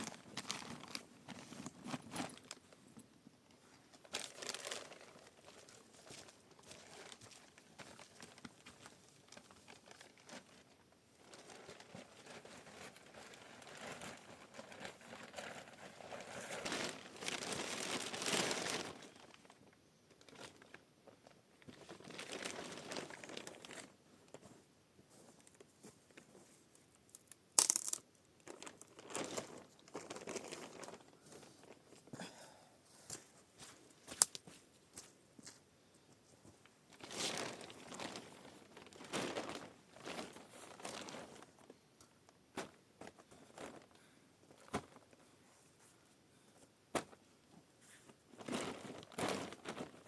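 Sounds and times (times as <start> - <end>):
rustling and crinkling of material: 0.0 - 50.0.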